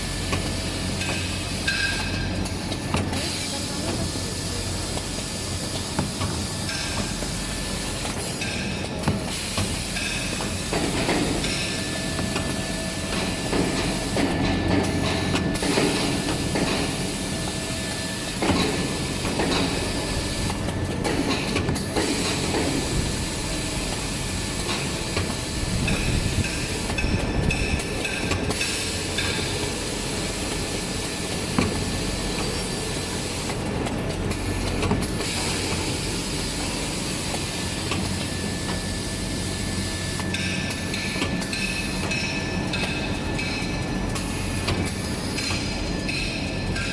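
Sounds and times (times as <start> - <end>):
cutting machine clatter and hiss: 0.0 - 46.9.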